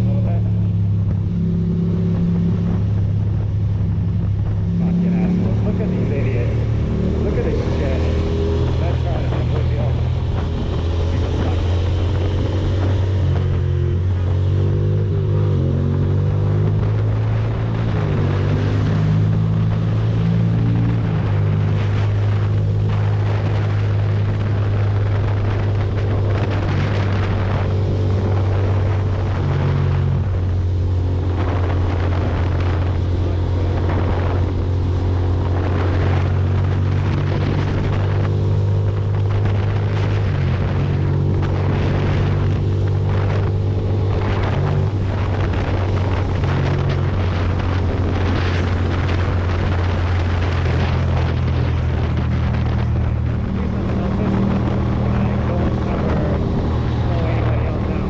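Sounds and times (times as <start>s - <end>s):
motorcycle engine cruising: 0.0s - 58.0s
wind on microphone: 0.0s - 58.0s.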